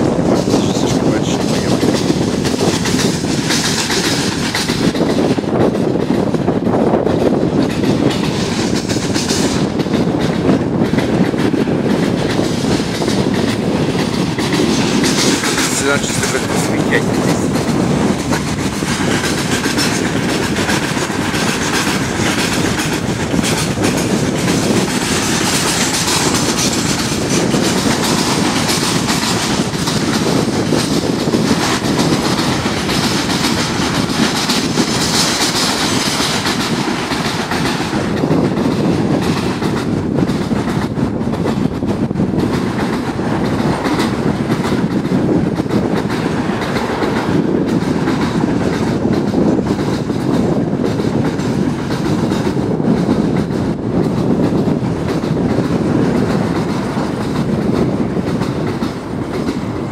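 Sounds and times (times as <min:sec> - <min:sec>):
freight train rumbling past: 0:00.0 - 0:59.9
wheels clacking over rail joints: 0:00.0 - 0:59.9.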